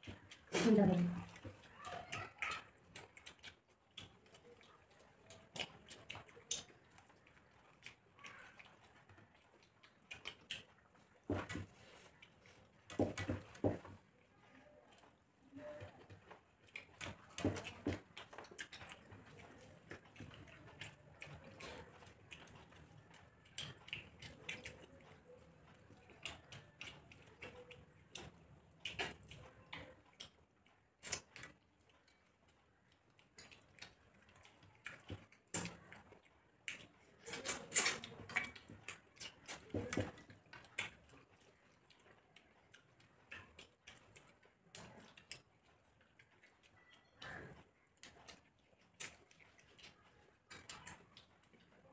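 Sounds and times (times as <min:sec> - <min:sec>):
chewing and mouth noises: 0:00.0 - 0:51.9
fingers mixing rice on plates: 0:00.0 - 0:51.9.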